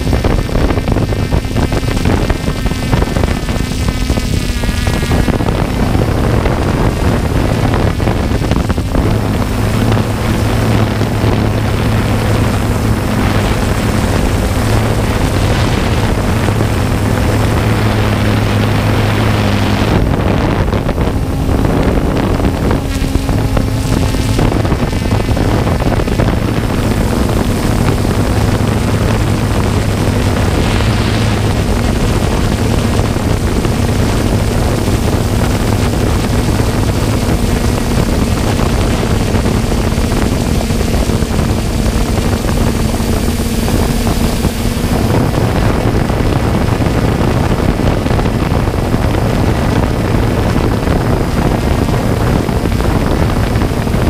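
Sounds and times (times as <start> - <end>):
drone motors humming: 0.0 - 54.0
wind rushing: 0.0 - 54.0.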